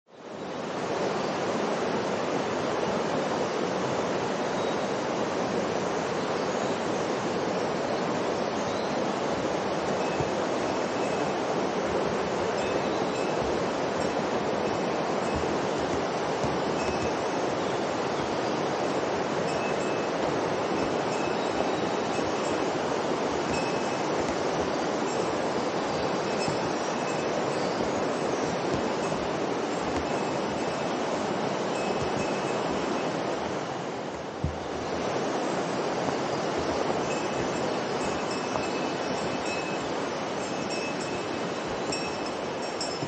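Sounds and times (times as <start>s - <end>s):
river rushing: 0.2s - 43.0s.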